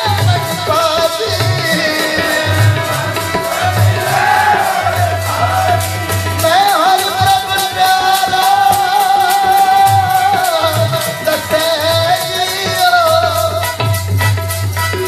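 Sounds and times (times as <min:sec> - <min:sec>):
man singing: 0:00.0 - 0:14.0
harmonium drone: 0:00.0 - 0:15.0
low tabla strokes: 0:00.0 - 0:15.0.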